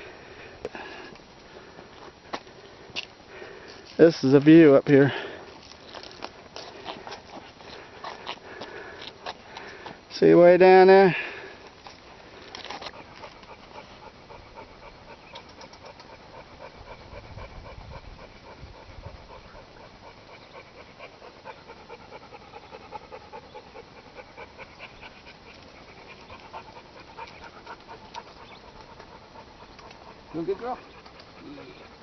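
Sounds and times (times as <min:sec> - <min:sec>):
dog panting: 0:03.3 - 0:32.0.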